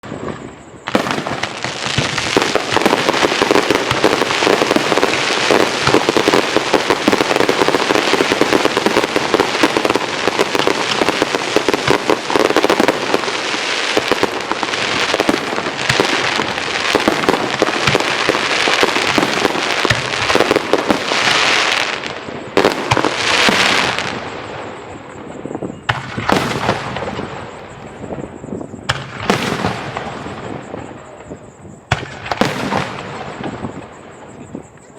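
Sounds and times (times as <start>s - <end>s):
fireworks hissing bursts: 0.0s - 34.1s
fireworks bangs and crackling: 0.0s - 34.9s.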